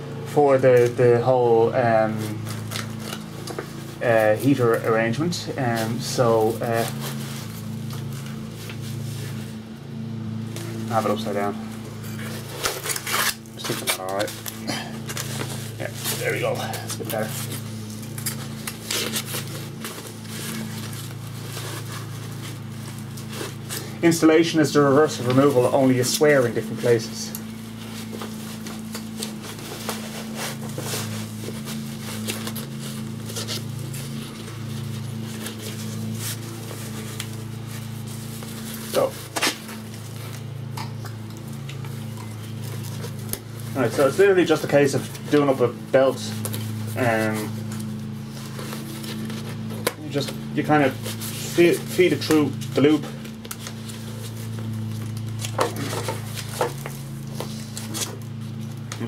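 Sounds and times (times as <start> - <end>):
steady low hum: 0.0 - 59.0
rustling and clicking handling: 1.8 - 59.0.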